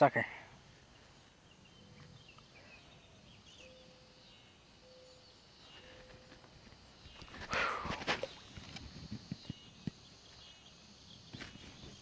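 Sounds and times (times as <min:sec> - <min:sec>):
soft bird chirps: 0:00.7 - 0:12.0.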